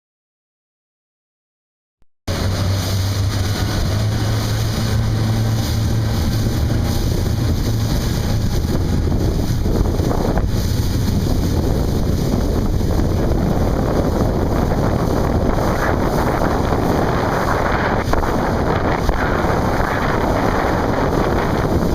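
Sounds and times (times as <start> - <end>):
outboard engines humming: 2.3 - 21.9
water rushing past hull: 2.3 - 21.9
wind buffeting microphone: 2.3 - 21.9.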